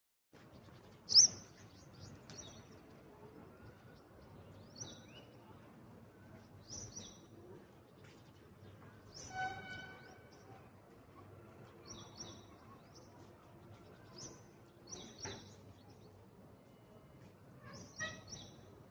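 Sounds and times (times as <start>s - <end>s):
birds chirping: 0.4s - 18.9s.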